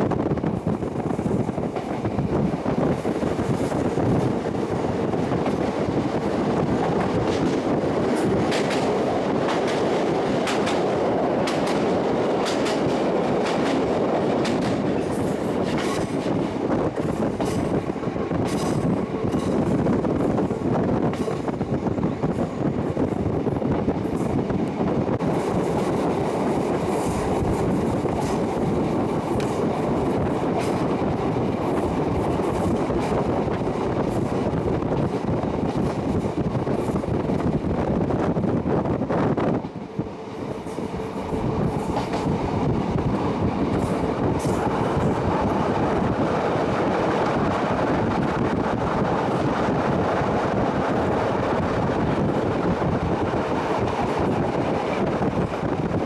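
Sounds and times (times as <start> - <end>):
train wheels rumbling on rails: 0.0 - 56.0
train wheels clicking on bridge: 0.4 - 56.0.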